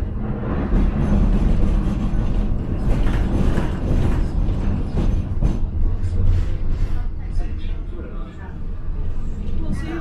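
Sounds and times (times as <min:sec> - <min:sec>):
tram car creaks and rattles: 0:00.0 - 0:10.0
tram wheels rumbling on track: 0:00.0 - 0:10.0.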